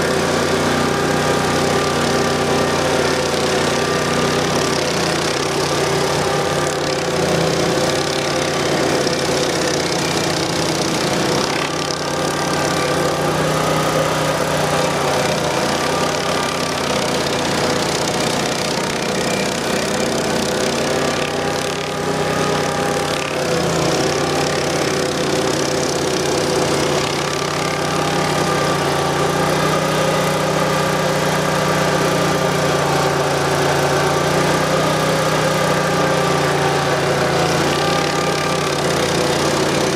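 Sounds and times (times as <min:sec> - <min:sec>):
cutter wheel grinding stump: 0:00.0 - 0:39.9
gas engine running under load: 0:00.0 - 0:39.9.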